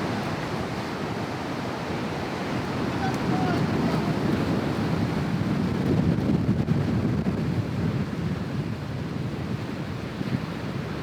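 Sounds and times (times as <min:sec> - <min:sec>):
ocean surf: 0:00.0 - 0:06.0, 0:07.4 - 0:11.0
wind buffeting microphone: 0:00.0 - 0:11.0.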